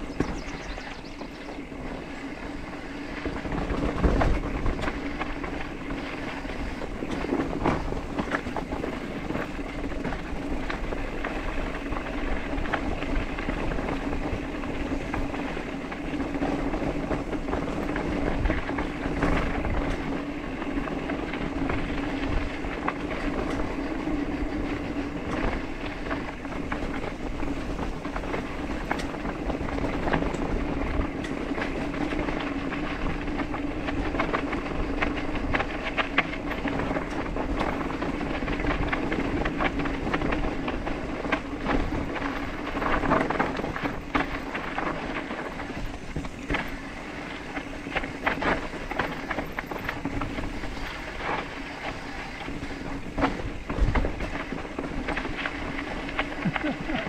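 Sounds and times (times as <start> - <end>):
bike clicking and rattling: 0.0 - 57.0
tyres rolling on dirt and gravel: 0.0 - 57.0.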